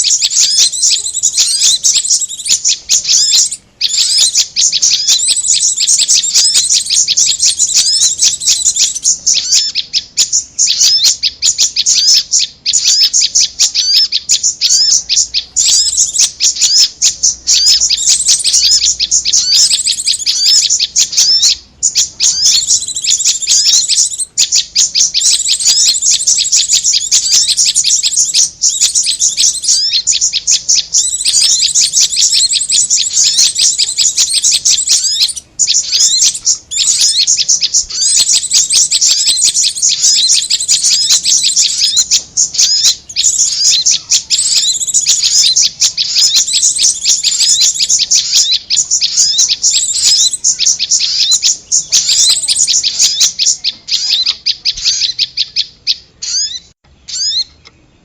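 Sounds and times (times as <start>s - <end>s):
birds chattering high chirps: 0.0s - 58.0s.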